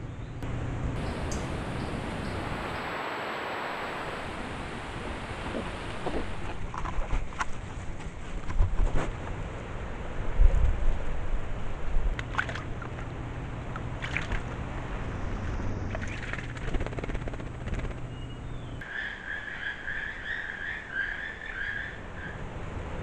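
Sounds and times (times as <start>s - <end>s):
low steady rumble: 0.0s - 18.8s.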